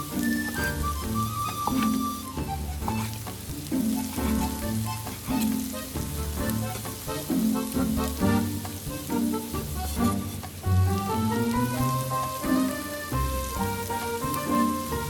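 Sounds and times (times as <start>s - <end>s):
background music with steady beat: 0.0s - 15.0s
food sizzling in a pan: 0.0s - 15.0s.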